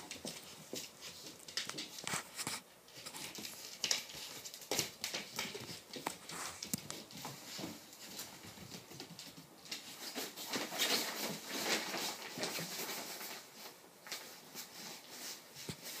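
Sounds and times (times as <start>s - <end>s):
puppy paws scrabbling on floor: 0.0s - 16.0s.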